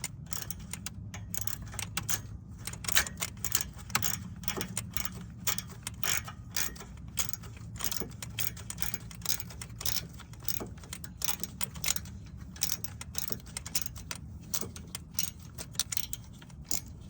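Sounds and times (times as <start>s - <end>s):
ratchet wrench clicking: 0.0s - 17.0s
steady low hum: 0.0s - 17.0s.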